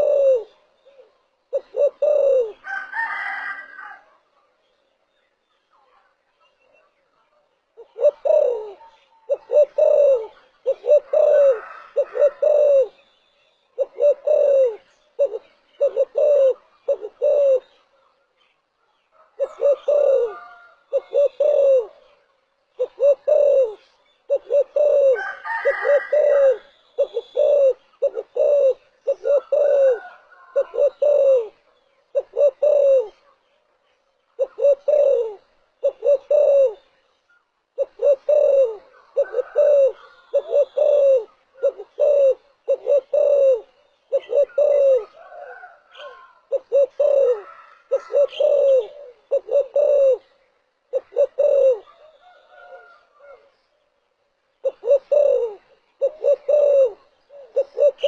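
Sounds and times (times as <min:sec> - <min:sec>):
dove cooing: 0:00.0 - 0:04.3, 0:07.8 - 0:13.1, 0:13.7 - 0:18.0, 0:19.2 - 0:33.4, 0:34.3 - 0:37.0, 0:37.8 - 0:53.6, 0:54.6 - 0:58.0.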